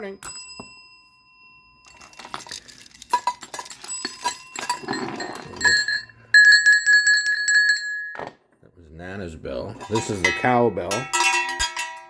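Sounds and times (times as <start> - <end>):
hand bell jingling: 0.0 - 8.2, 9.8 - 12.0
bell struck and ringing: 0.0 - 8.3, 9.8 - 12.0.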